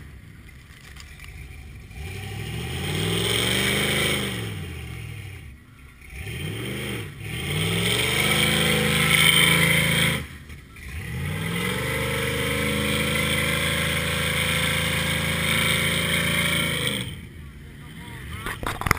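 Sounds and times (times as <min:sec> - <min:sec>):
tires spinning through mud: 0:00.0 - 0:18.9
truck engine revving hard: 0:01.4 - 0:18.4.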